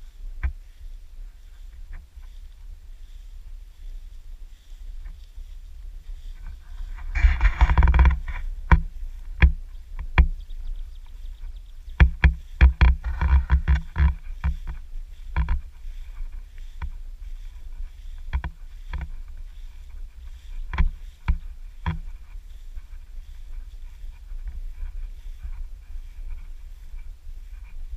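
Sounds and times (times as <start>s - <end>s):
footsteps through tall grass: 0.0s - 27.9s
wind rumble on microphone: 0.0s - 27.9s.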